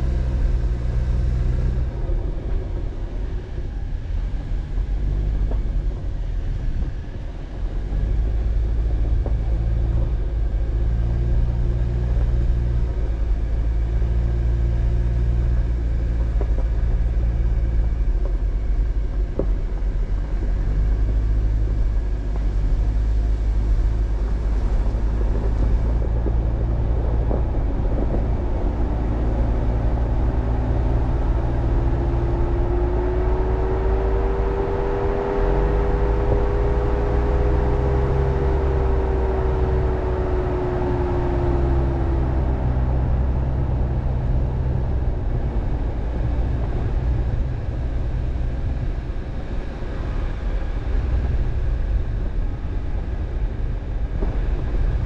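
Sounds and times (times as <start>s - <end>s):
car driving on dirt road: 0.0s - 55.0s.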